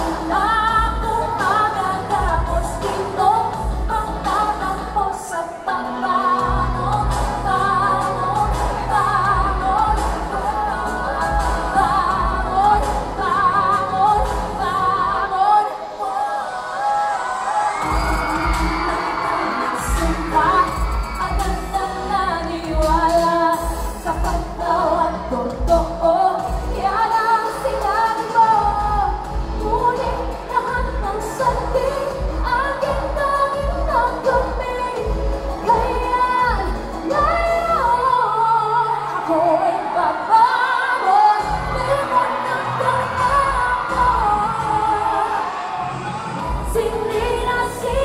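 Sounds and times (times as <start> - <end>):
pop backing track with bass beat: 0.0 - 16.6, 17.8 - 48.0
woman singing into microphone: 0.0 - 48.0.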